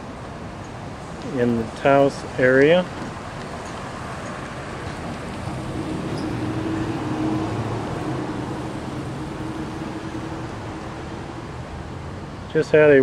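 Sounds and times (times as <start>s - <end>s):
road noise: 0.0s - 13.0s
vehicle engine hum passing: 1.0s - 13.0s.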